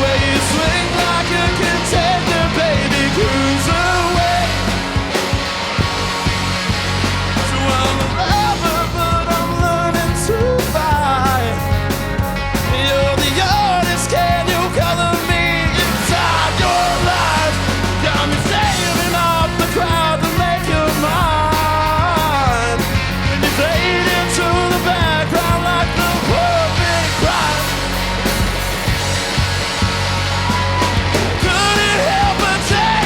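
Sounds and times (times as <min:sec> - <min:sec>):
drum hits: 0:00.0 - 0:33.0
rock band playing live: 0:00.0 - 0:33.0.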